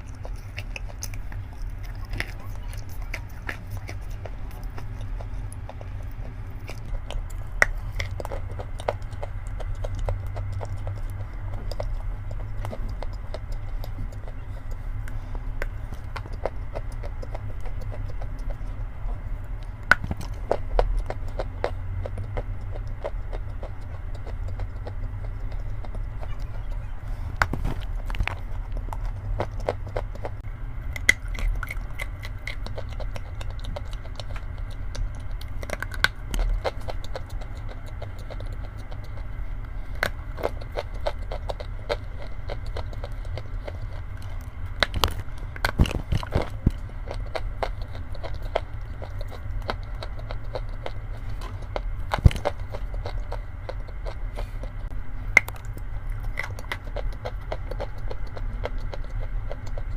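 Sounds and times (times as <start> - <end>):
chalk crunching when chewed: 0.0 - 59.9
steady low hum: 0.0 - 59.9.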